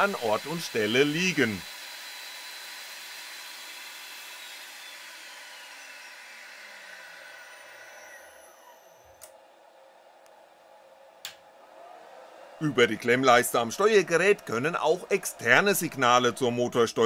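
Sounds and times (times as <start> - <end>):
spindle whine winding down: 0.0 - 9.8, 12.6 - 17.0.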